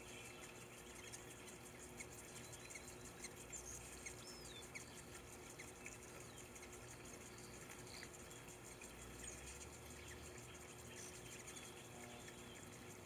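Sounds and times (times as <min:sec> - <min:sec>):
hummingbirds chirping: 0:00.0 - 0:13.0
water trickling: 0:00.0 - 0:13.0.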